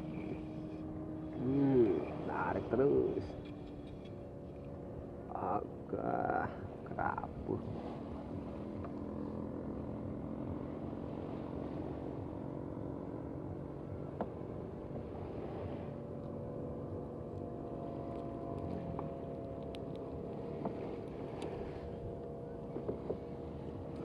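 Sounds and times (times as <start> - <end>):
engine droning hum: 0.0 - 24.0.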